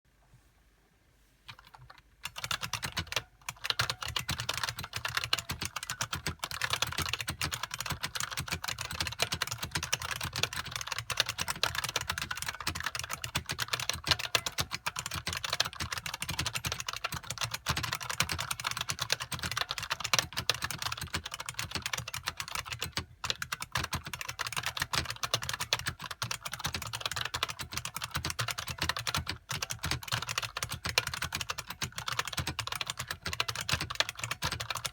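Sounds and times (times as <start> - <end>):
fast typing on a clacky keyboard: 1.5 - 34.9.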